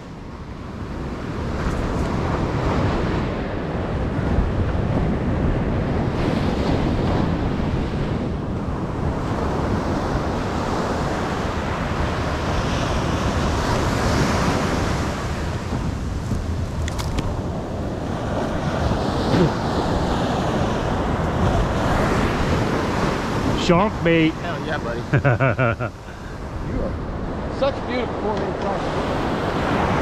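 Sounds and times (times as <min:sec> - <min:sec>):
surf washing on sand: 0:00.0 - 0:30.0
wind buffeting microphone: 0:00.0 - 0:30.0.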